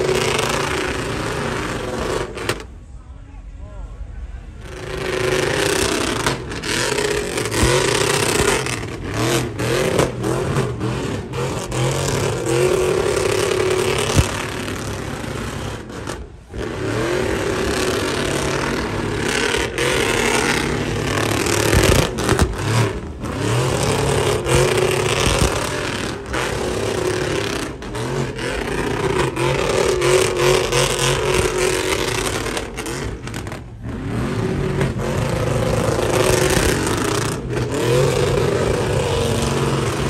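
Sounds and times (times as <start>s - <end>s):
truck engine revving: 0.0s - 2.9s, 3.9s - 40.0s
tyres spinning on asphalt: 0.0s - 2.9s, 4.0s - 40.0s.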